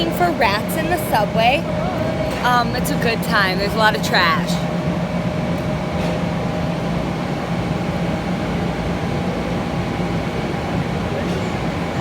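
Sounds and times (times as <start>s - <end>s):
subway station rumble: 0.0s - 12.0s.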